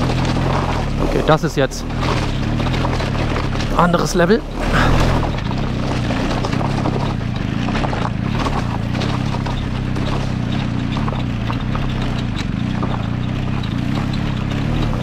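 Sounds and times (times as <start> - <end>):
motorcycle engine running: 0.0 - 15.0
stones crunching under tyres: 0.0 - 15.0.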